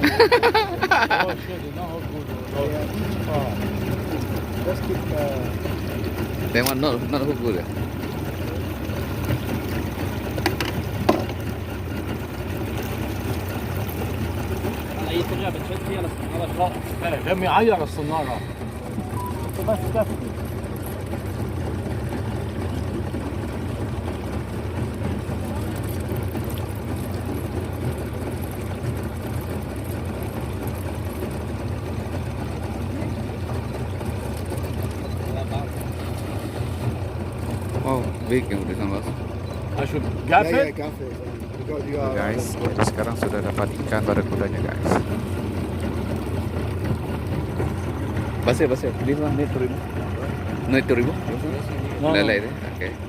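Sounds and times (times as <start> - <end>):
boat motor idling: 0.0 - 53.0.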